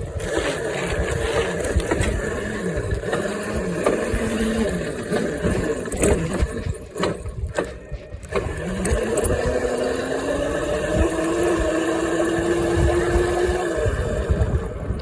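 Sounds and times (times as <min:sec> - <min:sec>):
electric motor whining: 0:00.0 - 0:15.0
wind and rolling noise: 0:00.0 - 0:15.0.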